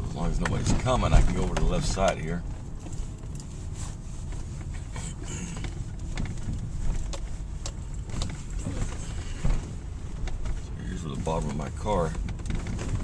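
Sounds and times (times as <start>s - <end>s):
car cabin rumble: 0.0s - 13.0s
knocks and clicks over ruts: 0.0s - 13.0s.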